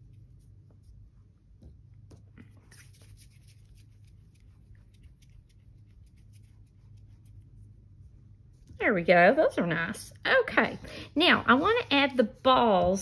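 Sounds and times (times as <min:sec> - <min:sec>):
palms rubbing clay: 0:00.0 - 0:09.6, 0:10.5 - 0:13.0
low steady hum: 0:00.0 - 0:13.0.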